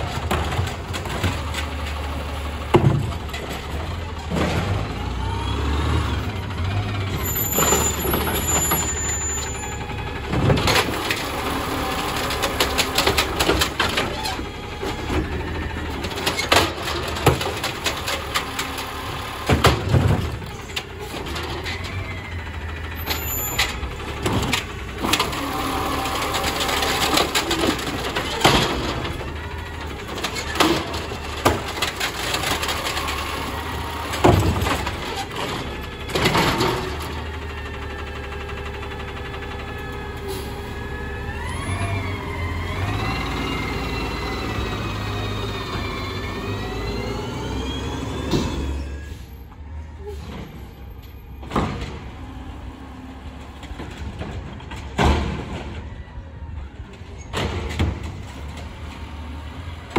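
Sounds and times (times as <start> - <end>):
diesel engine running: 0.0 - 59.9
garbage carts clanking and banging: 0.0 - 59.9.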